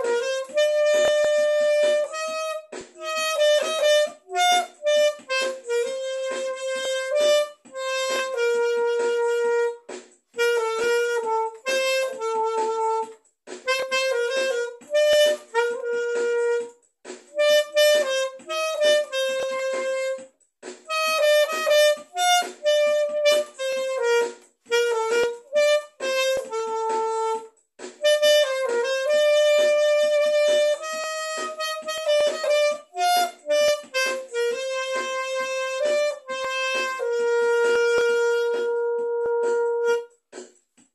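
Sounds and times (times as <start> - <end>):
harmonica playing slow melody: 0.0 - 16.8, 17.4 - 40.3.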